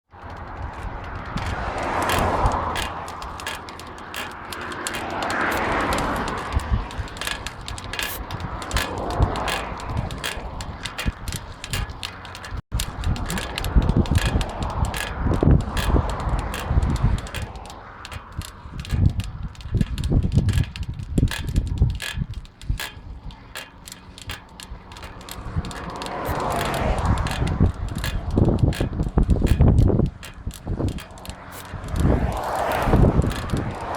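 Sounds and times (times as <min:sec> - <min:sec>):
bicycle wheel clicking and knocking: 0:00.1 - 0:33.9.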